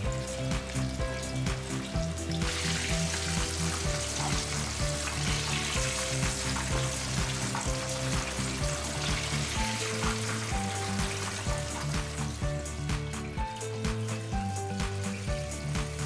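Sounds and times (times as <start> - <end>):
background music with steady beat: 0.0 - 16.0
chicken deep-frying in oil: 0.0 - 16.0.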